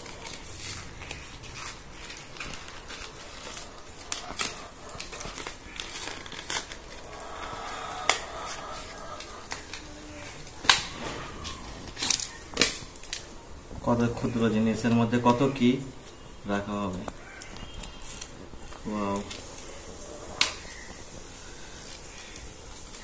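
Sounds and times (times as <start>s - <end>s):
packaging crinkling and tearing: 0.0s - 23.0s.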